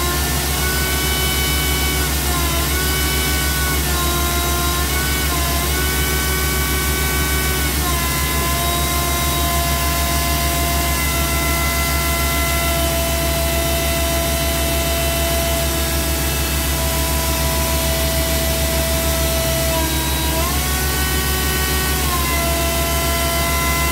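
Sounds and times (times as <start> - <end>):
drilling rig engine drone: 0.0 - 23.9.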